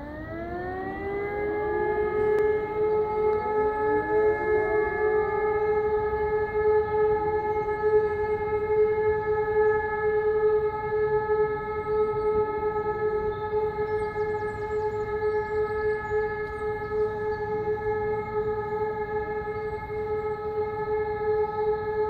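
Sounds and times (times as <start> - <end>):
air-raid siren steady tone: 0.0 - 22.0.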